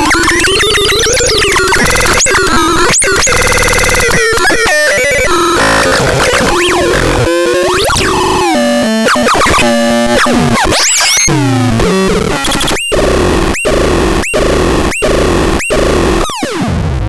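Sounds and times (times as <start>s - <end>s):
synthesizer beeps and pitch glides: 0.0s - 16.9s.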